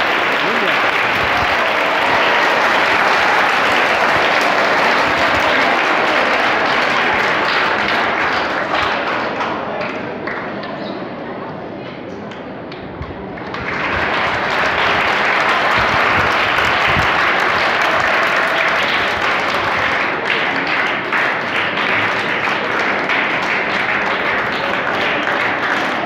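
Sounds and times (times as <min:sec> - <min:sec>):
audience applauding: 0:00.0 - 0:10.5, 0:13.3 - 0:26.0.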